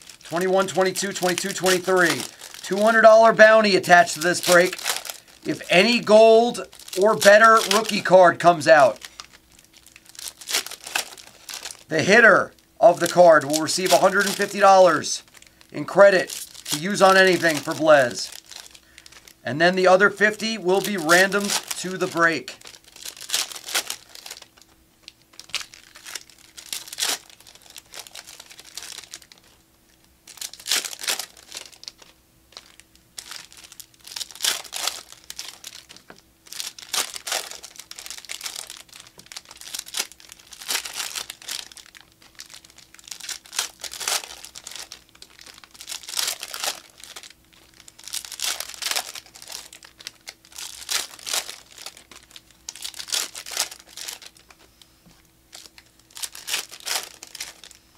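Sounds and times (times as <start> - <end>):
plastic wrappers crinkling and tearing: 0.0 - 57.8.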